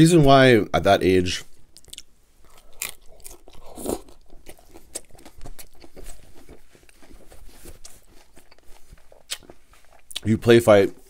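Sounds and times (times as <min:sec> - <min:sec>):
chewing crunchy taco: 0:01.5 - 0:11.0.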